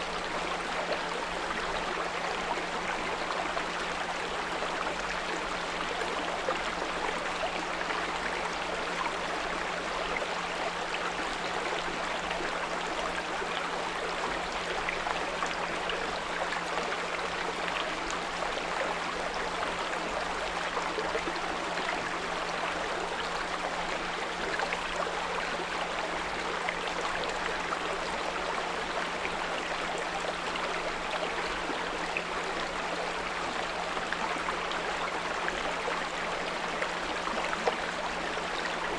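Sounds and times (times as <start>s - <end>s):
brook flowing water: 0.0s - 38.9s.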